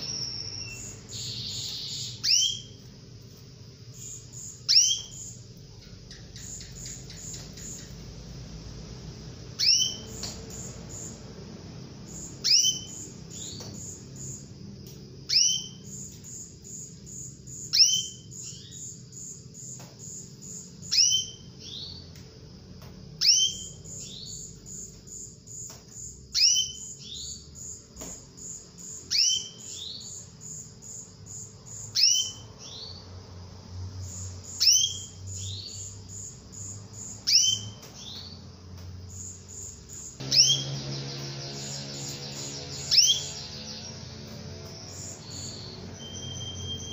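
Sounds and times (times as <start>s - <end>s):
canary calling: 0.0s - 14.6s, 15.2s - 22.2s, 23.2s - 27.8s, 28.4s - 33.2s, 34.0s - 38.5s, 39.1s - 46.9s.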